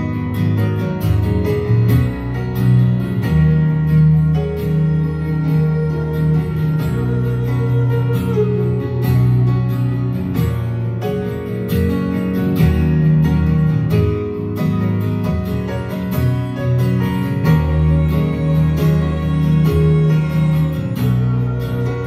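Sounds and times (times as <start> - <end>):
keyboard holding chords: 0.0 - 22.0.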